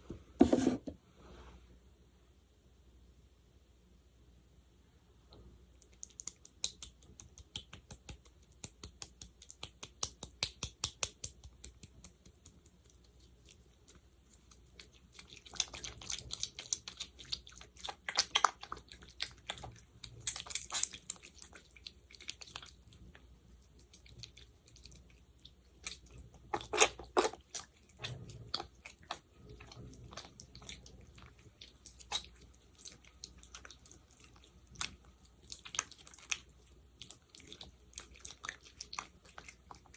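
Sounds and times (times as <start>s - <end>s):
fingers squishing sticky gel: 5.8s - 23.1s, 23.7s - 39.9s.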